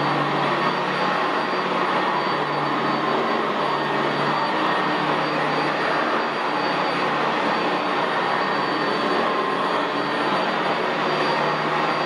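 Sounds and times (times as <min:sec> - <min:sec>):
upright vacuum running on carpet: 0:00.0 - 0:12.0.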